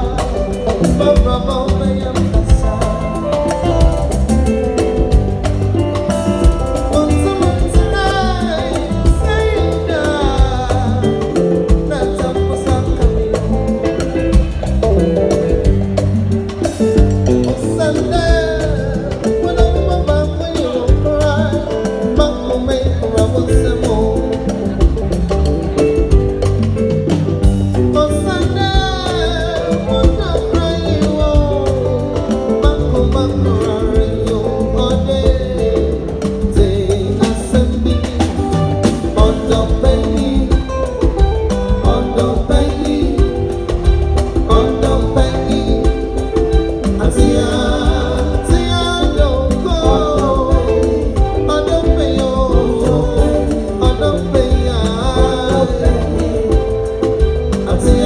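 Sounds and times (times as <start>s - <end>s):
man singing: 0.0s - 26.2s, 27.7s - 58.0s
bass guitar: 0.0s - 58.0s
drum kit: 0.0s - 58.0s
hand drum: 0.0s - 58.0s
live band playing: 0.0s - 58.0s.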